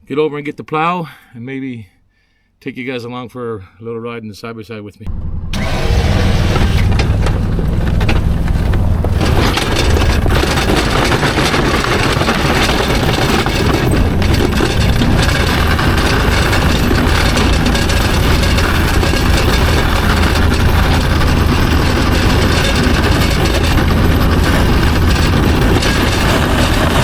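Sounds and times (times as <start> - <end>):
utv engine running: 5.1 - 27.0.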